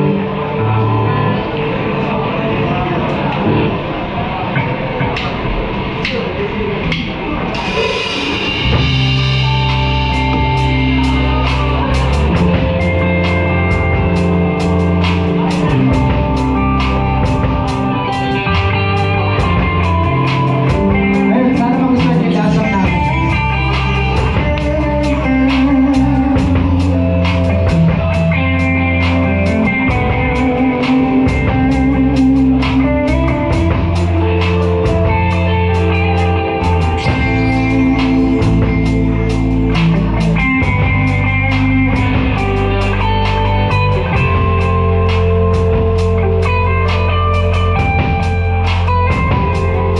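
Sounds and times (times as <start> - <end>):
bass guitar: 0.0 - 49.9
electric guitar: 0.0 - 49.9
drum kit beat: 6.8 - 49.9.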